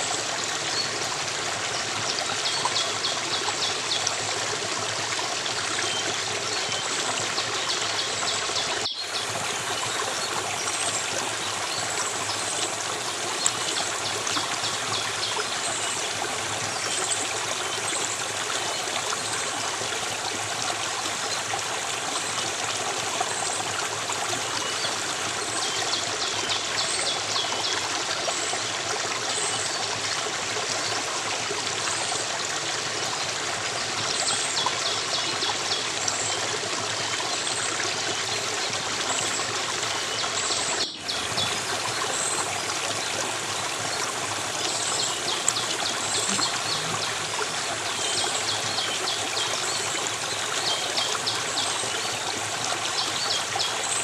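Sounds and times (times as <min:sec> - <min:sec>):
stream running water: 0:00.0 - 0:54.0.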